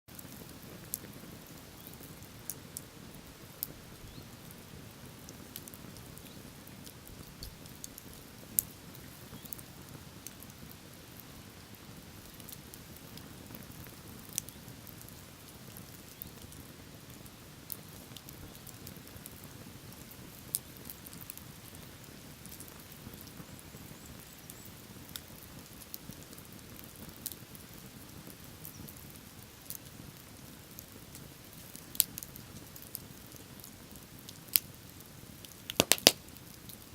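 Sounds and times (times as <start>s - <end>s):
wood bonfire crackling: 0.1s - 36.9s.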